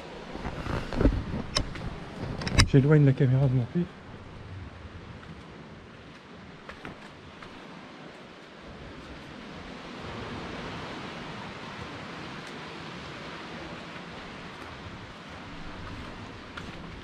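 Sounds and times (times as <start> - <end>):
sea water surging in rocks: 0.0 - 17.0.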